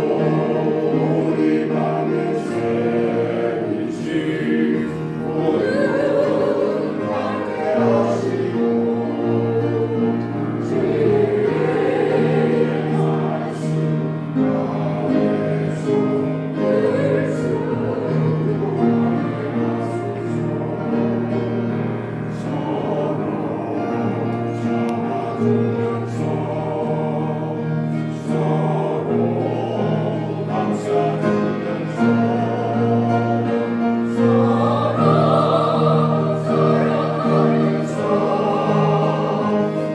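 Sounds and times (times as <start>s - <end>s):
choir singing slow gospel: 0.0s - 39.9s.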